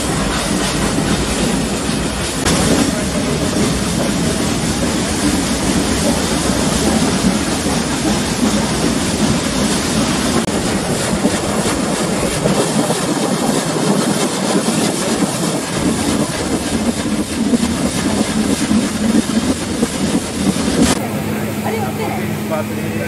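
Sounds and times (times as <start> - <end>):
train wheels clattering on track: 0.0 - 23.0.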